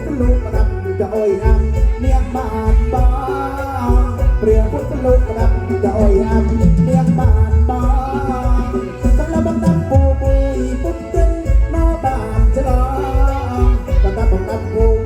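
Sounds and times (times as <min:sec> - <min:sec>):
amplified folk band music: 0:00.0 - 0:15.0
steady bass drum beat: 0:00.0 - 0:15.0.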